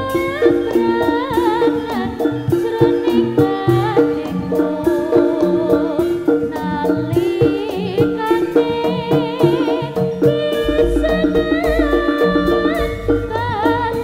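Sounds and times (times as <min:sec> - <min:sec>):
hand drum strokes: 0:00.0 - 0:14.0
person singing wavering melody: 0:00.0 - 0:14.0
pitched gamelan percussion: 0:00.0 - 0:14.0.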